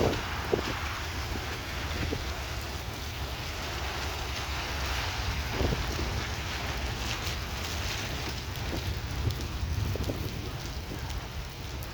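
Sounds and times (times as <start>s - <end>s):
heavy rain falling: 0.0s - 11.9s
wind buffeting microphone: 0.0s - 11.9s.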